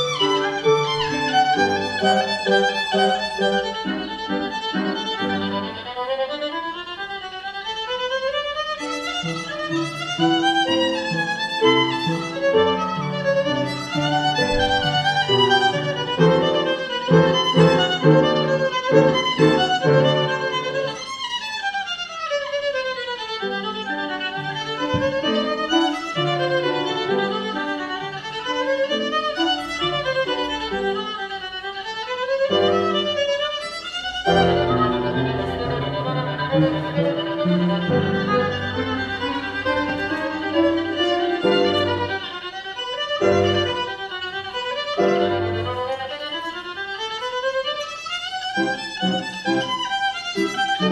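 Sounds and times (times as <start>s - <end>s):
piano accompaniment: 0.0s - 6.3s, 8.8s - 21.5s, 22.7s - 31.3s, 32.3s - 46.7s, 48.4s - 50.9s
violin melody: 0.0s - 50.9s.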